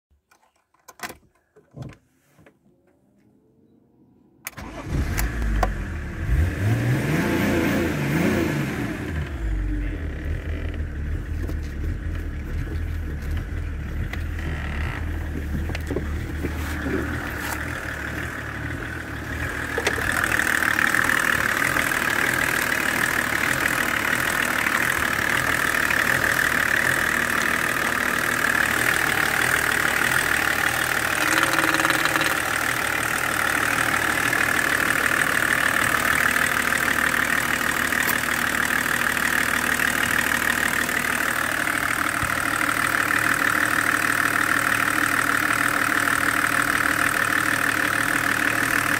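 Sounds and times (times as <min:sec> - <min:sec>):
diesel engine starting and idling: 0:04.4 - 0:48.9.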